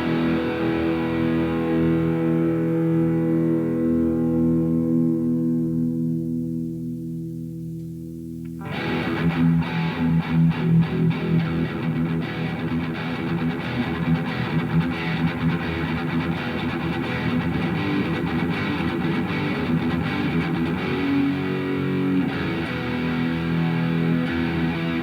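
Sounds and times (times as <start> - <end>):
distorted electric guitar chords: 0.0 - 25.0.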